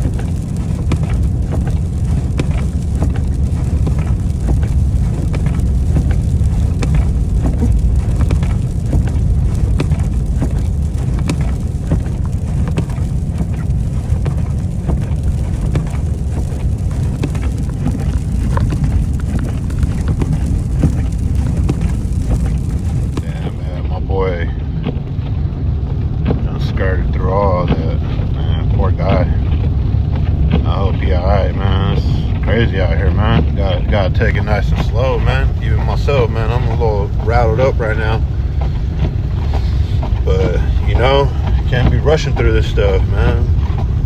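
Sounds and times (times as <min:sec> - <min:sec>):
ice pellets ticking on truck: 0:00.0 - 0:24.9, 0:26.3 - 0:44.0
truck engine and tyres rumbling: 0:00.0 - 0:44.0.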